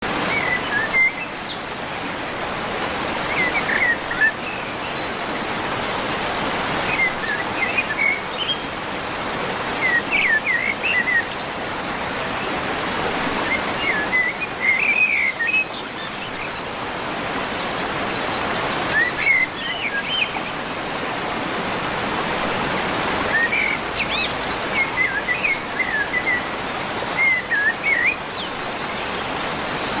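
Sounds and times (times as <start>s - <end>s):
birds chirping: 2.7s - 21.2s, 22.8s - 30.0s.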